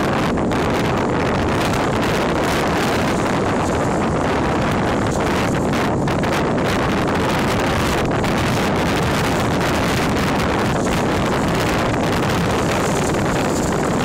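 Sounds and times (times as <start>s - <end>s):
water rushing past hull: 0.0s - 14.0s
wind buffeting microphone: 0.0s - 14.0s.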